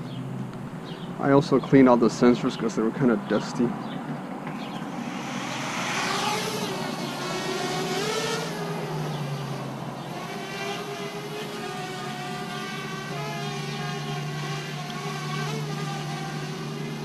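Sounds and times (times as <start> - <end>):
drone propellers buzzing whine: 0.0 - 2.9, 3.8 - 17.0.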